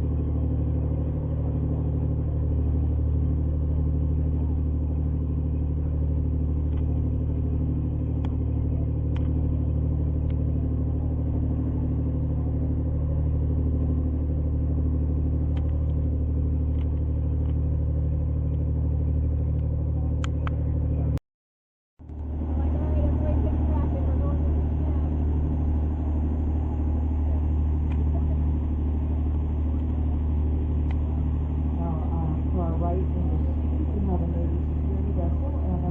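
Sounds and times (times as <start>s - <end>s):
boat engine droning: 0.0s - 21.2s, 22.0s - 35.9s.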